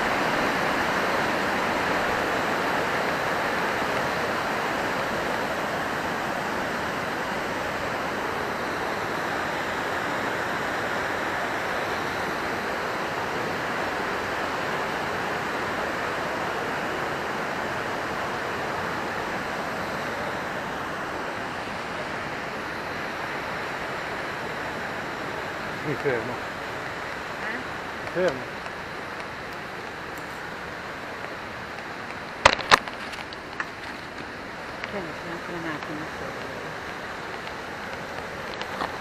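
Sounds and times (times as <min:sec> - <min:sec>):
fast-flowing water rushing: 0:00.0 - 0:39.0.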